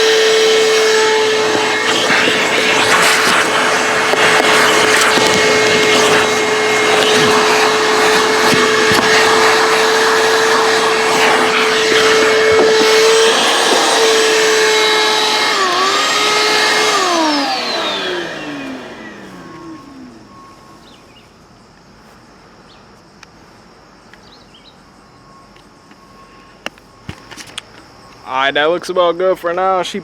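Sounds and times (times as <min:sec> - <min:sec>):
vacuum cleaner motor whine: 0:00.0 - 0:29.3.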